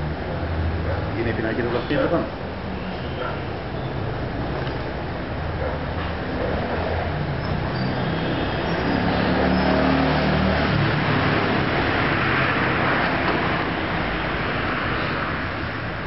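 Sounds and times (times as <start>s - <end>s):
rushing road noise: 0.0s - 16.0s.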